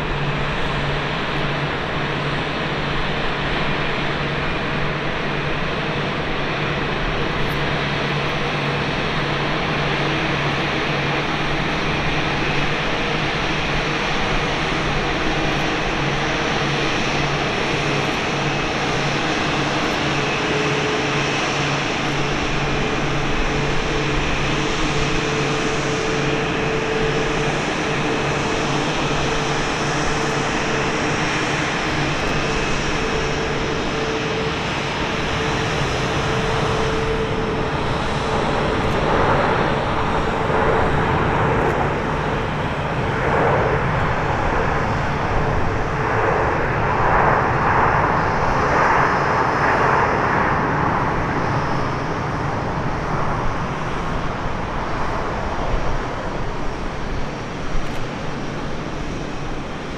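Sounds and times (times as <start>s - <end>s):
jet engine roar with whine: 0.0s - 59.9s.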